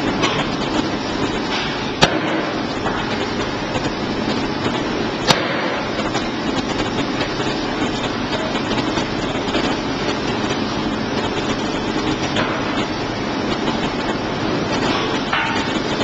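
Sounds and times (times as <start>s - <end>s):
machinery running: 0.0s - 16.0s.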